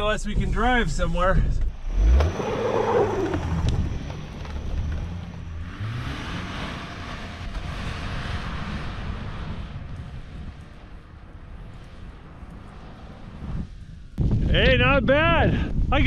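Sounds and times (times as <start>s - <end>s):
car engine running hard: 0.3s - 14.2s.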